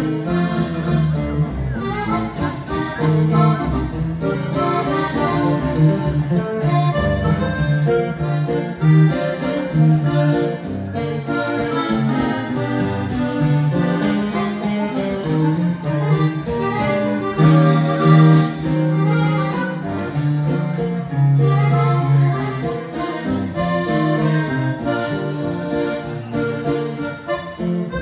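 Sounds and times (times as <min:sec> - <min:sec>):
accordion: 0:00.0 - 0:28.0
twelve-string guitar strumming: 0:00.0 - 0:28.0.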